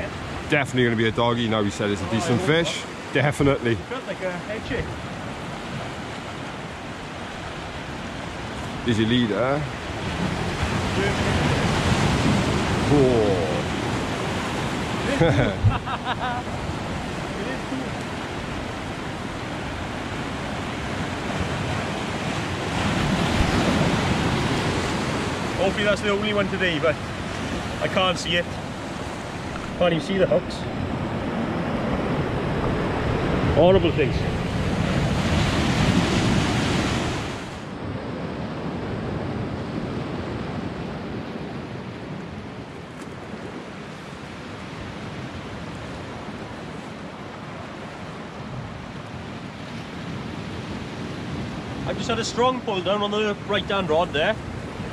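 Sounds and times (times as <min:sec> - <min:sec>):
waves breaking over rocks: 0:00.0 - 0:54.9.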